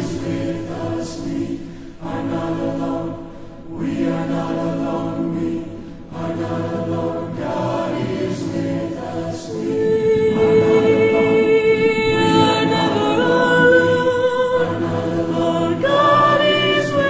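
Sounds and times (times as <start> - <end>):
choir singing sustained chords: 0.0 - 17.0.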